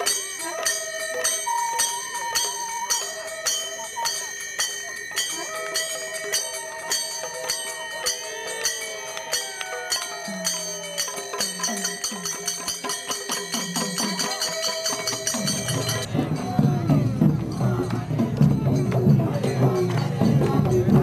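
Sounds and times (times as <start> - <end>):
music: 0.0 - 21.0
ringing small bells or cymbals: 0.0 - 21.0
voices: 0.0 - 21.0.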